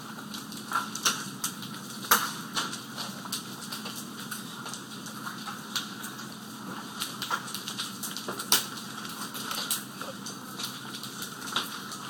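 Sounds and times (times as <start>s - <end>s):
hailstones striking hard surfaces: 0.6s - 12.0s.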